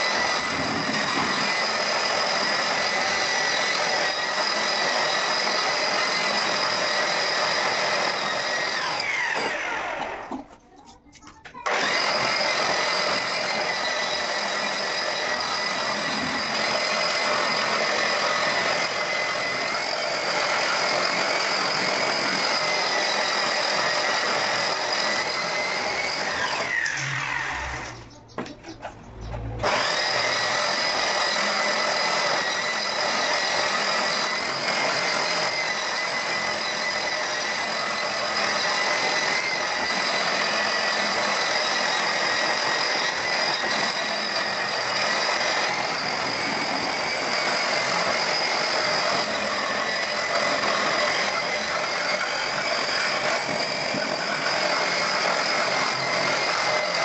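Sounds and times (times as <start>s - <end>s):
electric sander on cement: 0.0s - 10.4s, 11.7s - 28.0s, 29.6s - 57.0s.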